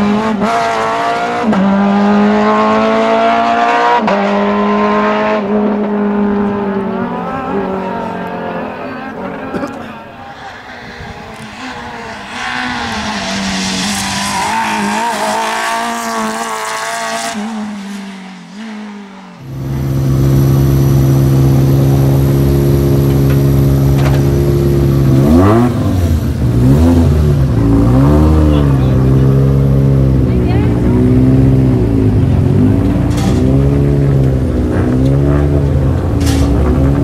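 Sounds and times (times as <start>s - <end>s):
rally car driving past: 0.0s - 37.0s
rally car engine idling and revving: 0.0s - 37.0s.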